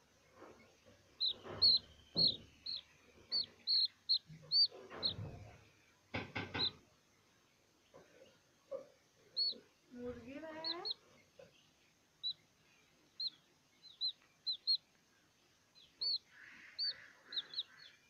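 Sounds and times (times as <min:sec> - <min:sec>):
chick peeping: 0:00.3 - 0:06.9, 0:07.9 - 0:15.0, 0:15.7 - 0:18.0.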